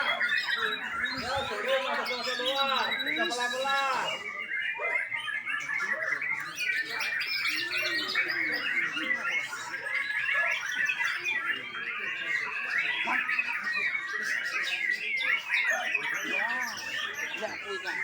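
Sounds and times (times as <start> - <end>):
bird singing chirps and trills: 0.0 - 18.0.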